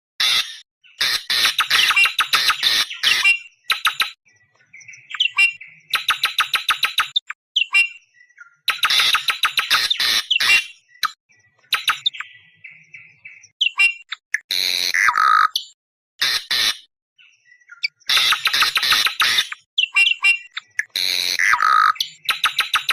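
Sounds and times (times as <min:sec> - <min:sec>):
lower buzzy bird calls: 0:00.2 - 0:22.9.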